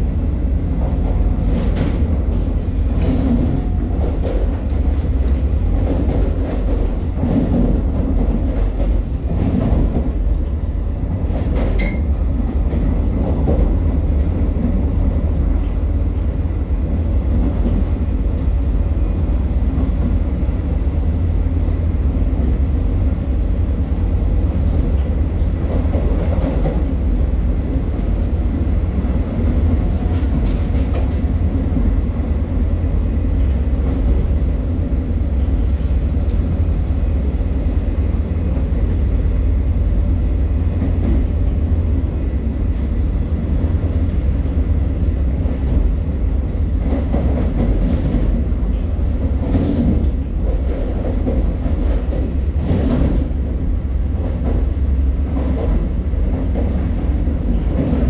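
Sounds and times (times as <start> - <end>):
train running noise: 0.0 - 58.0.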